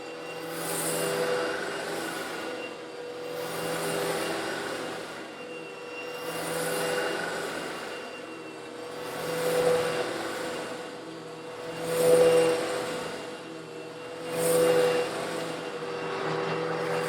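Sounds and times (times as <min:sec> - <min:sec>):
vacuum cleaner motor hum: 0:00.0 - 0:17.0.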